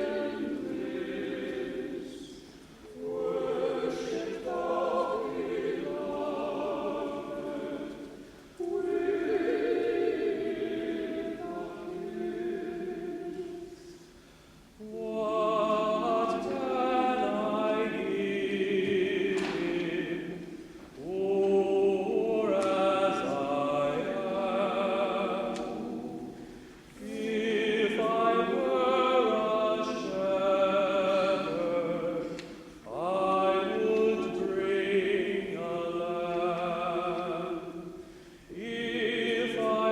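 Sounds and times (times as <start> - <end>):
choir singing with vibrato: 0.0 - 39.9.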